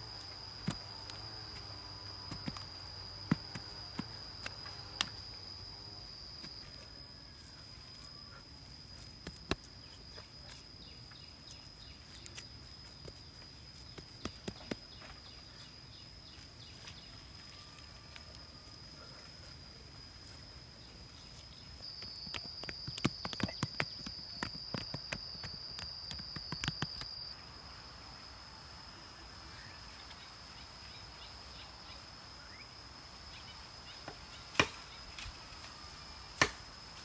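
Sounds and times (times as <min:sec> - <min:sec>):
high-pitched insect drone: 0:00.0 - 0:37.0.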